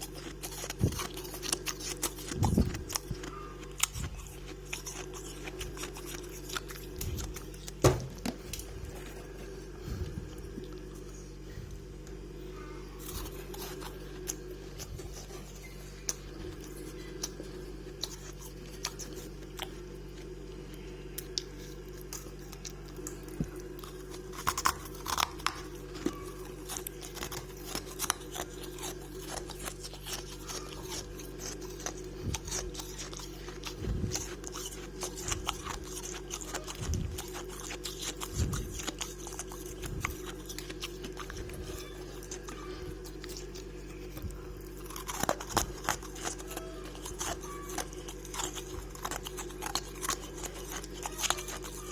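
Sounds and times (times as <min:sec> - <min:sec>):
crunching and chewing frost: 0:00.0 - 0:51.9
steady low hum: 0:00.0 - 0:51.9.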